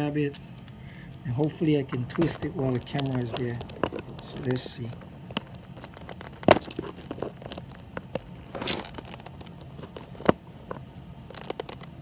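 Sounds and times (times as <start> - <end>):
plastic casing creaking: 1.2 - 12.0.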